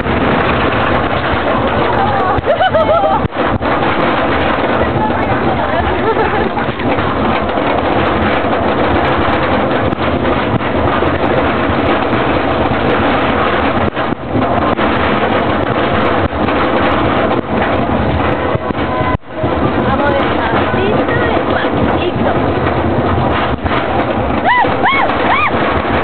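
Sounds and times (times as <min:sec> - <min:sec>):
roller coaster rumbling: 0:00.0 - 0:26.0
wind buffeting microphone: 0:00.0 - 0:26.0.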